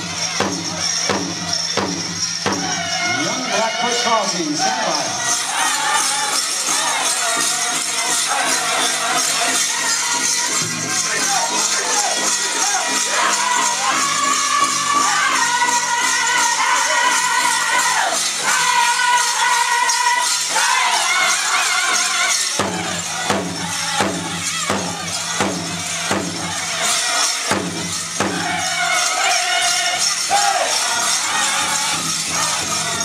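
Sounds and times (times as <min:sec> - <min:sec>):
steady drumbeat: 0:00.0 - 0:19.1, 0:22.5 - 0:33.0
jingling bells: 0:00.0 - 0:33.0
group singing in high voices: 0:02.4 - 0:03.9, 0:04.6 - 0:33.0.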